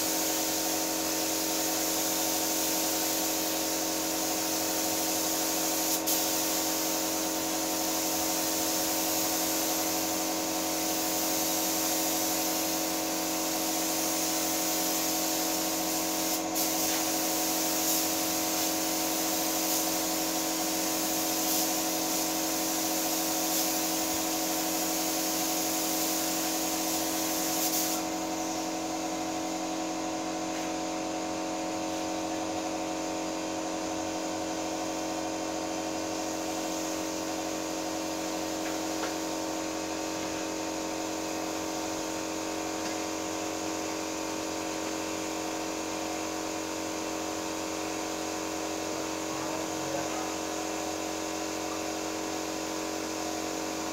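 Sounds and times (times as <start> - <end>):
paint spray gun hissing: 0.0 - 53.9.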